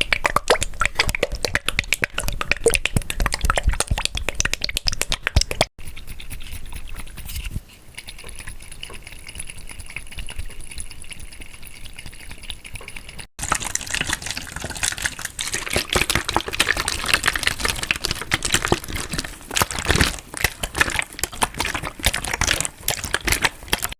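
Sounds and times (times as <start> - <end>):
small water splashes and clicks: 0.0 - 23.9
water handled close up: 0.0 - 23.9.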